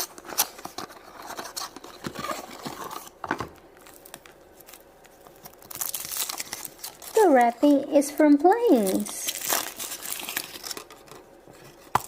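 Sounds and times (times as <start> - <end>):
wrapper tearing and crinkling: 0.0 - 3.2, 3.8 - 7.8, 8.7 - 12.0.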